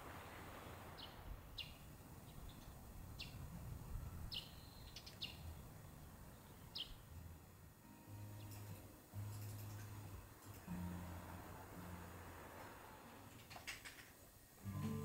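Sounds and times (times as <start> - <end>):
faint low outdoor rumble: 0.0 - 15.0
songbirds chirping: 0.0 - 15.0.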